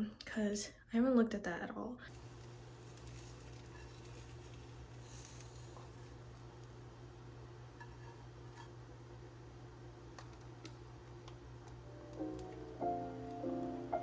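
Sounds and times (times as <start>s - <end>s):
steady low hum: 2.1s - 14.0s.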